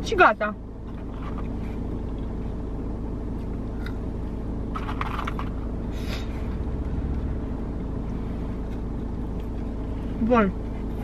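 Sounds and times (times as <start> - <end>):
car engine hum: 0.0 - 11.0
road noise inside car: 0.0 - 11.0.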